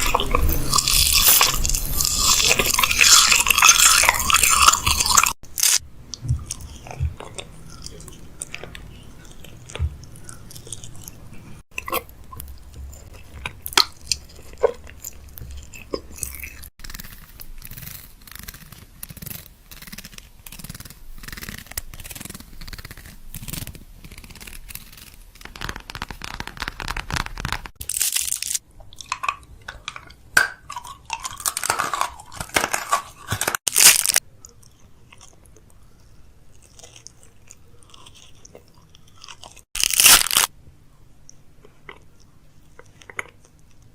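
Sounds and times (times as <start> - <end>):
crunching crisp snacks: 0.0 - 40.5.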